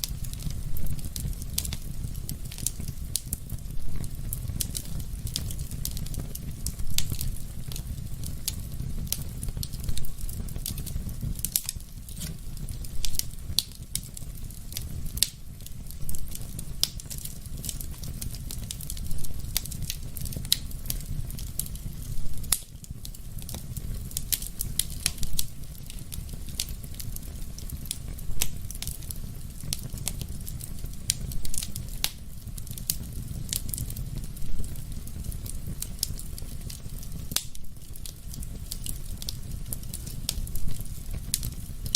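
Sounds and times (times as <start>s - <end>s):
fire crackles and pops: 0.0s - 41.9s
wood fire flames rumbling: 0.0s - 41.9s.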